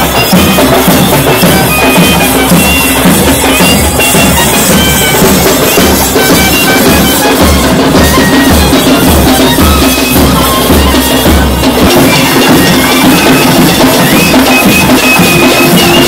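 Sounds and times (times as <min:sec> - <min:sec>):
double-reed pipe melody: 0:00.0 - 0:16.0
drum beats: 0:00.0 - 0:16.0.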